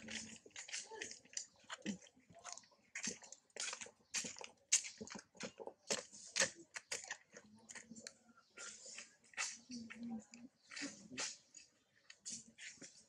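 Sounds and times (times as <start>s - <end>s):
monkey chewing and lip-smacking: 0.0s - 13.0s.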